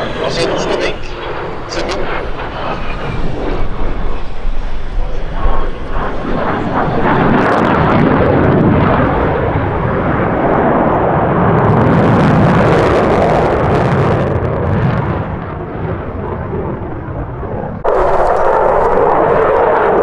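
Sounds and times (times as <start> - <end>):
fighter jet passing overhead: 0.0 - 20.0.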